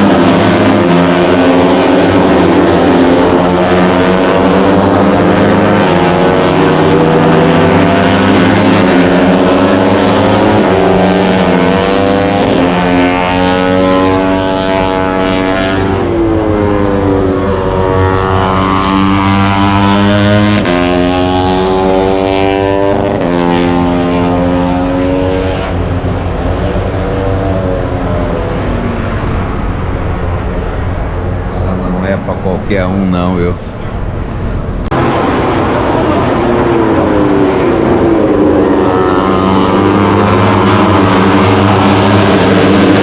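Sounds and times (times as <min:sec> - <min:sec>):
racing motorcycles at high revs: 0:00.0 - 0:33.9, 0:34.7 - 0:43.0.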